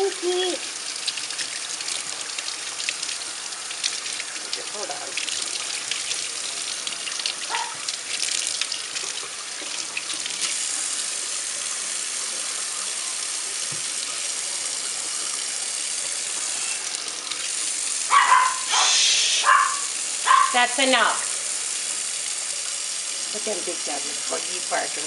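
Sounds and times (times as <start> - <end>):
faucet water splashing into sink: 0.0 - 25.0.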